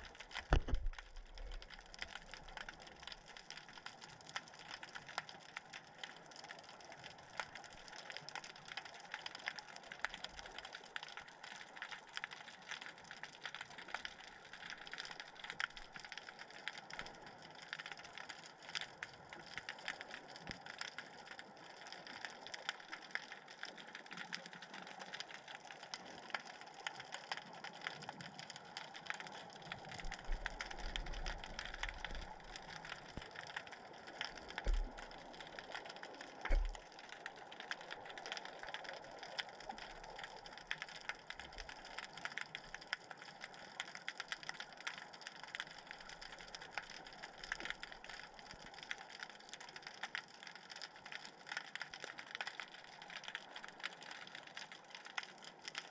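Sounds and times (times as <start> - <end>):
underwater crackle of clicks: 0.0 - 55.9.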